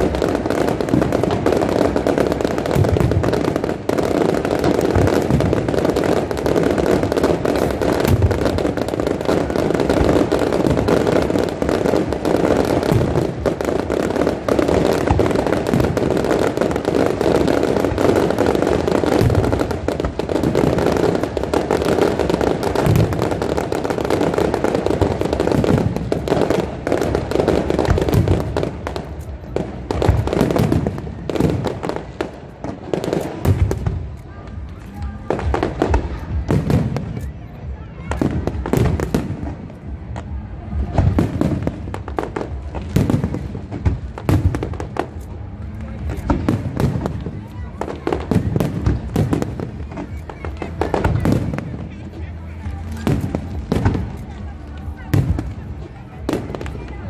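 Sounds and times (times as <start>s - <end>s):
deep fireworks booms: 0.0s - 57.0s
fireworks bangs and crackles: 0.0s - 57.0s.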